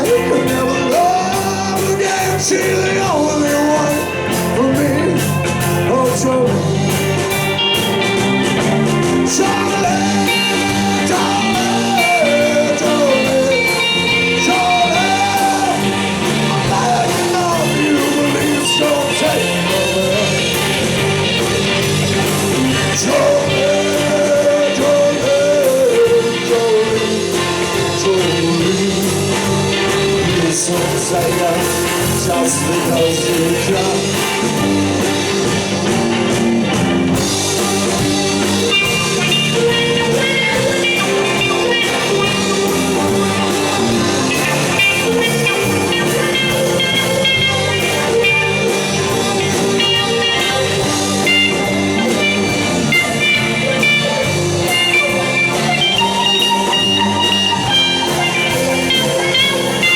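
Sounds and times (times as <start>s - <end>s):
rock band playing instrumental: 0.0s - 59.9s
high repeated melodic line: 6.4s - 28.0s, 28.6s - 59.9s.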